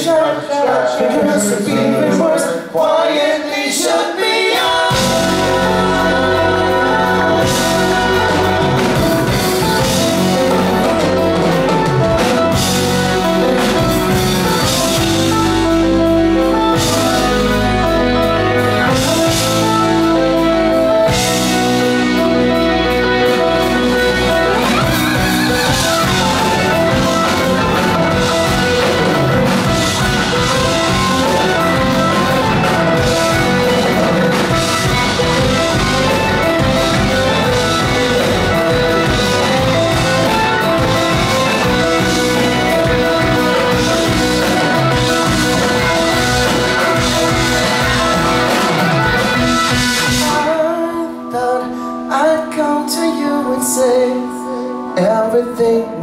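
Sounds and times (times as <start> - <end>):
drums: 0.0 - 51.8
keyboards: 0.0 - 56.0
bass guitar: 4.5 - 51.3
electric guitar: 4.5 - 56.0.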